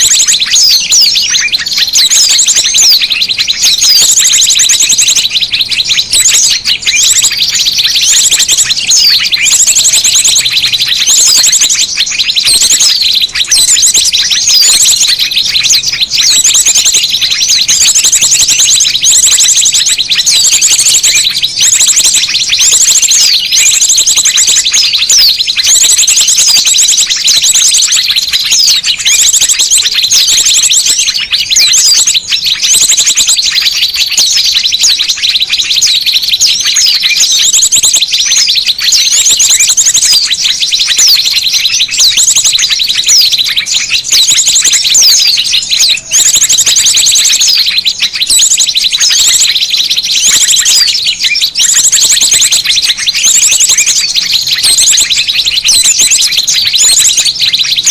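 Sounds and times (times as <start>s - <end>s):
small birds chirping and trilling: 0.0s - 57.9s.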